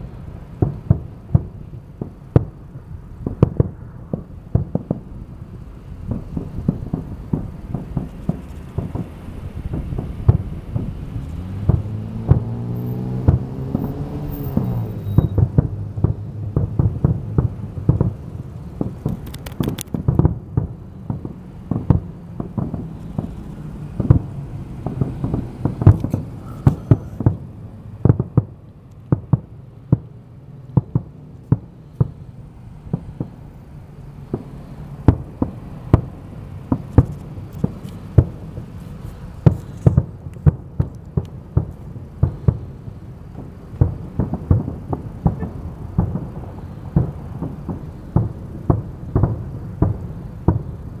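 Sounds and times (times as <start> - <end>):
fireworks bursting with sharp bangs: 0.0 - 51.0
steady low rumble: 0.0 - 51.0.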